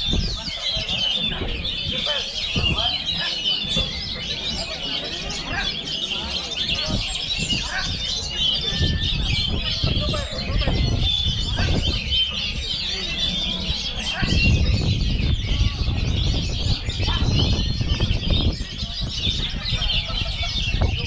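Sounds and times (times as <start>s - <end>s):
many birds singing: 0.0s - 21.0s.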